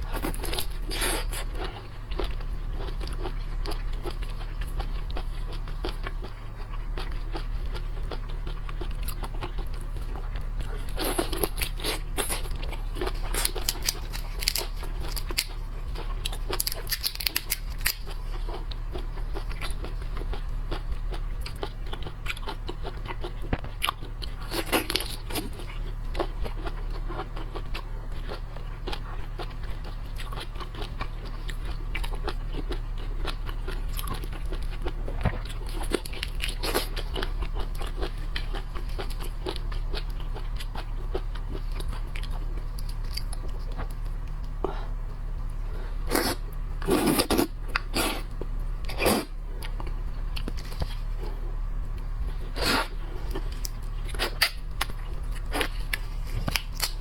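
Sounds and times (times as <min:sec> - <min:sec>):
crunching and chewing shellfish: 0:00.0 - 0:57.0
steady low hum: 0:00.0 - 0:57.0.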